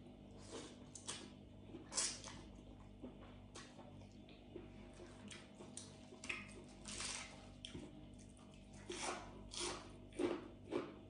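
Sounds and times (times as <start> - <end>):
wet chewing and lip-smacking: 1.0 - 11.0.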